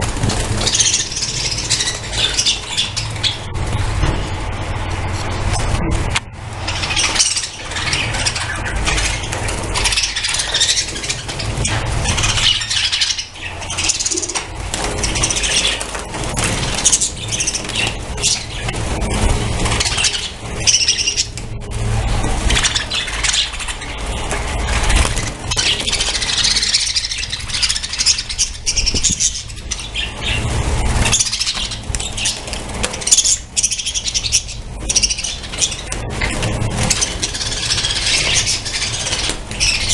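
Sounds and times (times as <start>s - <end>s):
budgerigars chattering: 0.3s - 3.5s, 6.6s - 21.4s, 22.4s - 39.9s.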